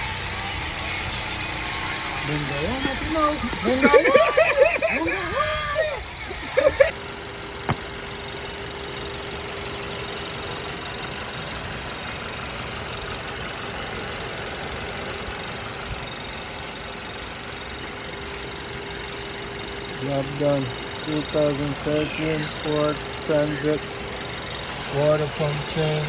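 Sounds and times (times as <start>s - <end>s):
car engine idling: 0.0s - 26.0s
faint steady whine: 0.0s - 26.0s.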